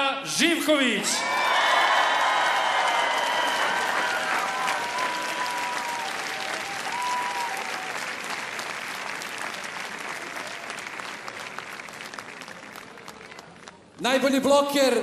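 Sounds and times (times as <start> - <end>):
large crowd applauding: 1.2 - 14.2.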